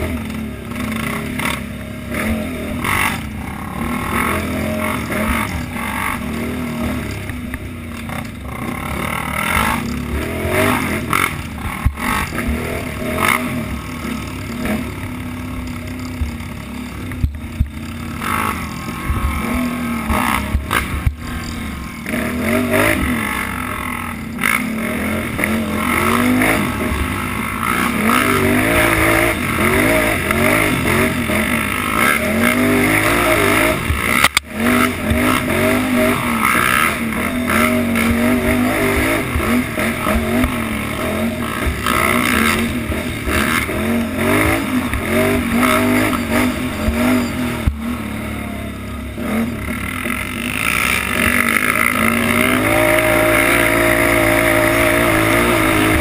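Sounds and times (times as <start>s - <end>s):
knocks and clatter over bumps: 0.0s - 48.3s, 49.4s - 56.0s
atv engine revving: 0.0s - 56.0s.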